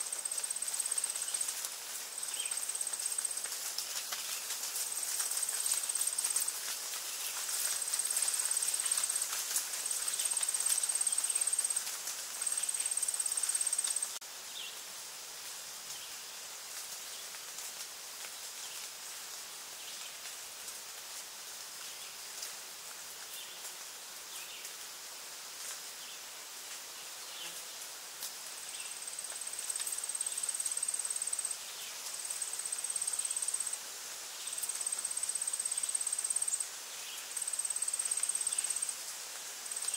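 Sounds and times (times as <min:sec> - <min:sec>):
insects buzzing: 0:00.0 - 0:19.7, 0:23.4 - 0:39.9.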